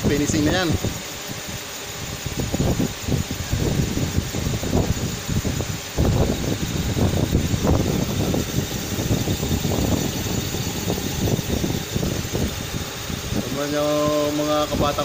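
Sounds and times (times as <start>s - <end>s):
boring mill running: 0.0s - 15.0s
steady hiss: 0.0s - 15.0s.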